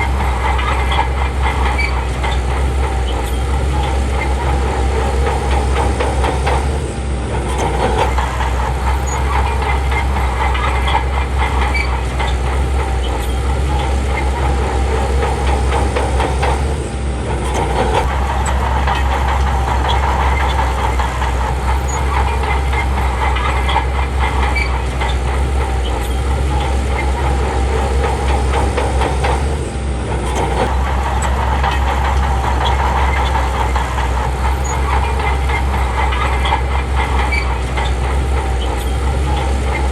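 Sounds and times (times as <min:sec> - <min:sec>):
bulldozer diesel engine running: 0:00.0 - 0:39.9
metallic rattle of steel tracks: 0:00.0 - 0:39.9.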